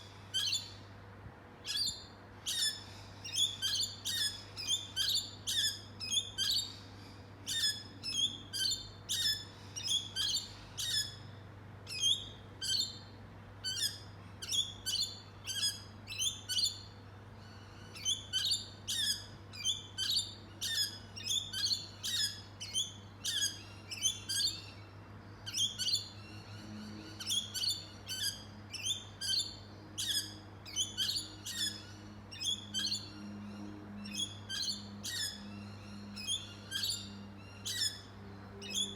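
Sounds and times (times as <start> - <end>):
birds chirping: 0.0 - 1.0, 1.6 - 38.9.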